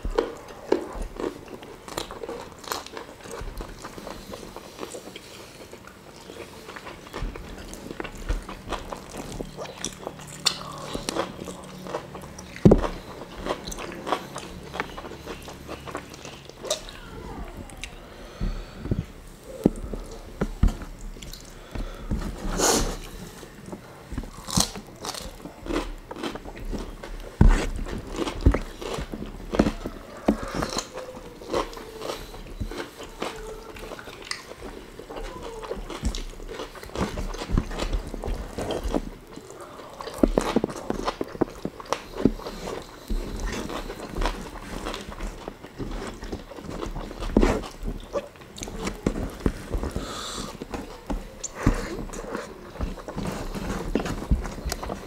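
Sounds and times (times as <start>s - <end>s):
biting chewing and crunching: 0.0s - 18.1s, 19.0s - 55.0s.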